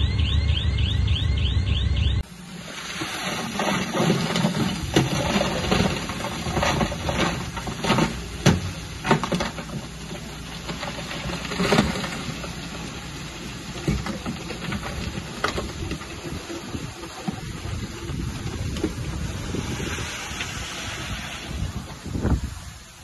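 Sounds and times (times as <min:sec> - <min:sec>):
bulldozer diesel engine running: 0:00.0 - 0:22.7.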